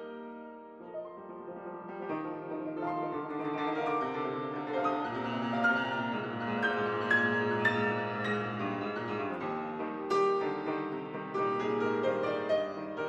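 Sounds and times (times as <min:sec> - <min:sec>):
classical keyboard piece: 0:00.0 - 0:13.0.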